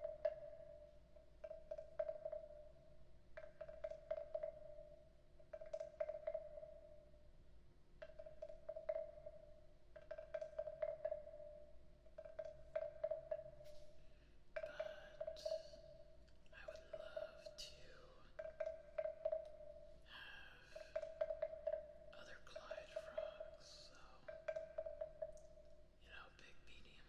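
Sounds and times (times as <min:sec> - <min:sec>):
wooden frog instrument clicking: 0:00.0 - 0:07.1, 0:08.0 - 0:27.0.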